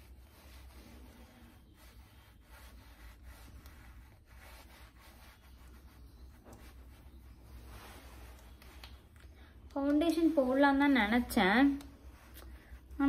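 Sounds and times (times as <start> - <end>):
fingertips rubbing cream on skin: 0.0 - 13.0.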